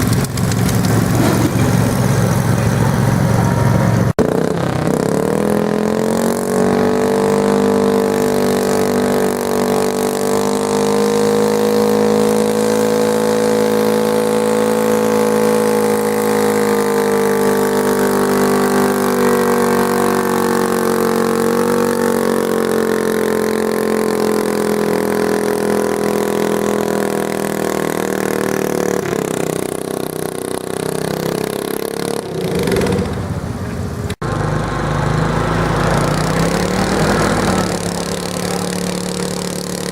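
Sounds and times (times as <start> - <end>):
tractor engine at high revs: 0.0 - 39.9.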